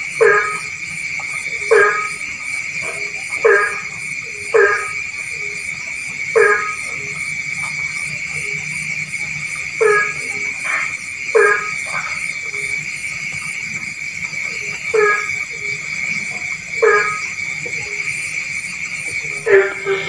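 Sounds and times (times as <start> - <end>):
faint fast pulsing: 0.0 - 20.0
frog croaking: 0.0 - 20.0
high-pitched insect chorus: 0.0 - 20.0.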